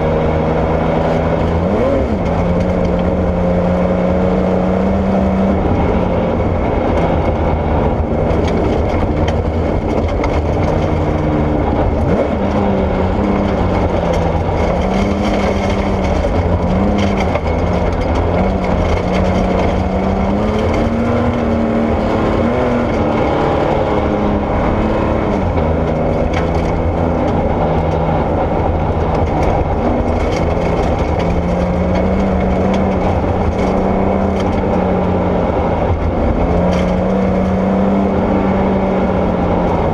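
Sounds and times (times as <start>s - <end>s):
rally car engine revving: 0.0s - 39.9s
gravel crunching against car: 0.6s - 39.9s.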